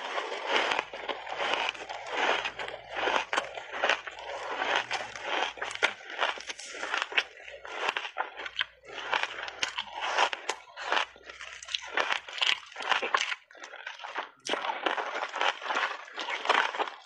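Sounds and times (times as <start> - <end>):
ice being chewed crunching: 0.0 - 17.0.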